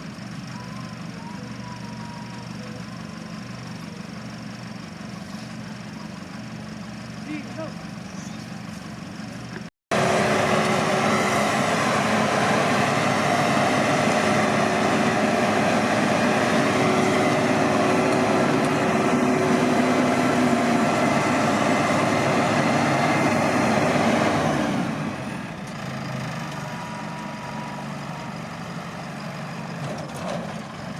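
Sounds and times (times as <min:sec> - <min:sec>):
combine harvester engine drone: 0:00.0 - 0:30.9.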